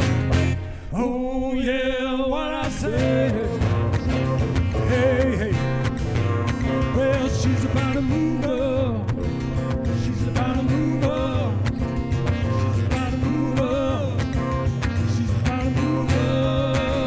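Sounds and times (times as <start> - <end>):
country guitar duo music: 0.0 - 0.9, 2.6 - 17.0.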